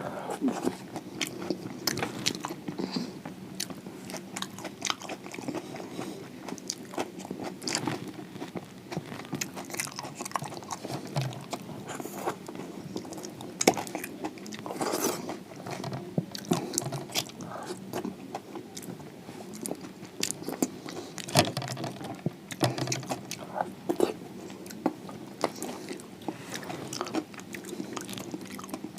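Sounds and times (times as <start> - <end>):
crunching and chewing food: 0.3 - 28.9.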